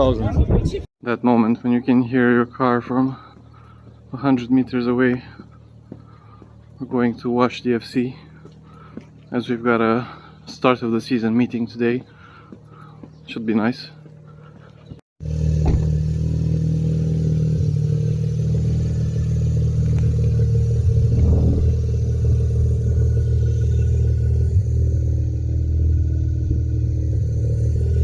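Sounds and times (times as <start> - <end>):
car engine running: 2.2 - 28.0.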